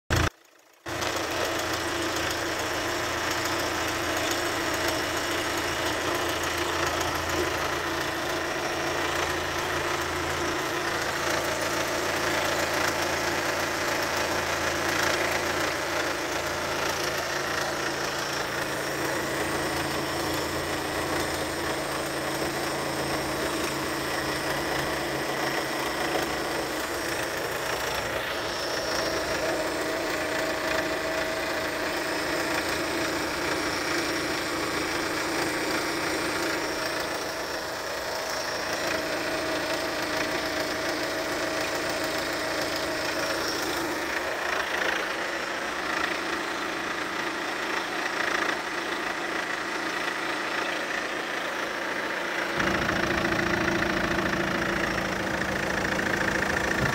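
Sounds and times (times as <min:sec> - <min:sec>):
diesel engine idling: 0:00.1 - 0:56.9.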